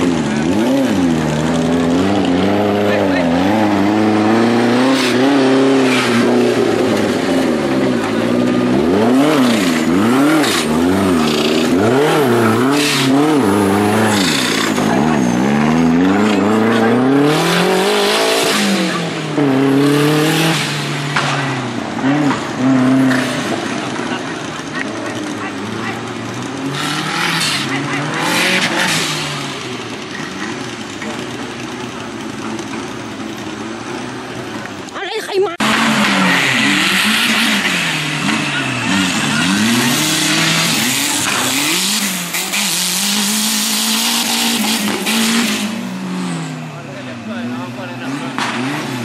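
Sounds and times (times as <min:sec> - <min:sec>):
off-road vehicle engine revving: 0:00.0 - 0:49.0.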